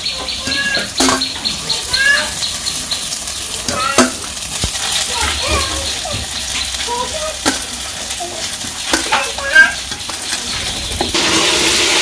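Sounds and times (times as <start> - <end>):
fritters sizzling in hot oil: 0.0 - 12.0.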